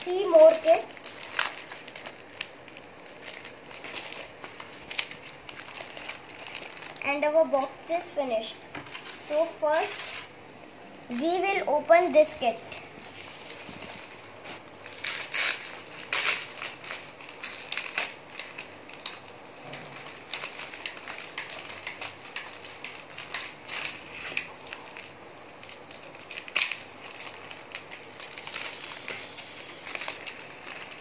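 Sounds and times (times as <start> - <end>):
plastic packaging crinkling: 0.0 - 31.0.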